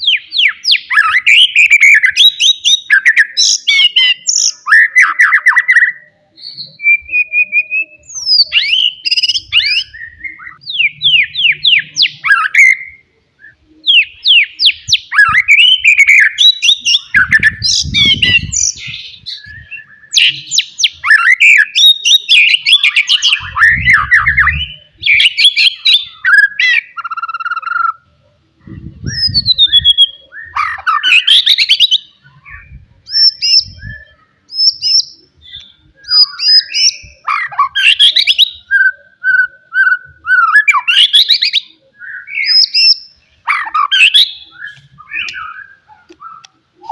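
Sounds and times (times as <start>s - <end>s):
songbird singing whistles: 0.0s - 28.0s, 29.0s - 46.9s.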